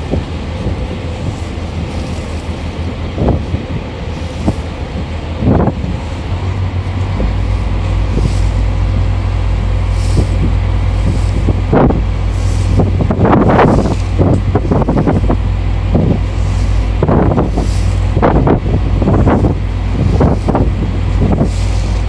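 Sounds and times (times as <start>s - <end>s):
steady low rumble: 0.0s - 22.0s
wind buffeting microphone: 0.0s - 22.0s.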